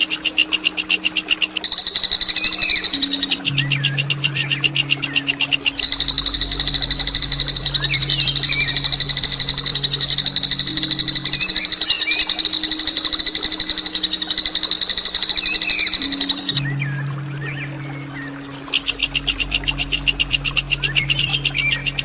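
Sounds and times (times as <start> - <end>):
songbird rolling trill: 0.0 - 16.6, 18.7 - 22.0
faint bird chirps: 0.0 - 22.0
low steady hum: 0.0 - 22.0.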